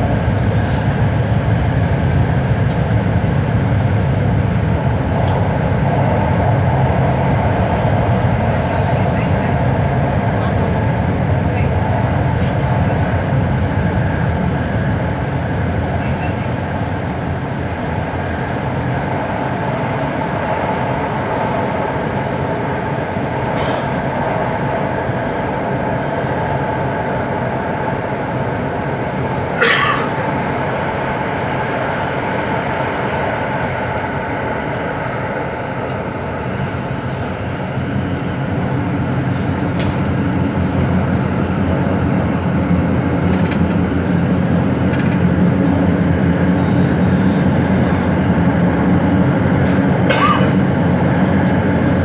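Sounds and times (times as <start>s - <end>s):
train wheels and motors rumbling: 0.0s - 52.0s.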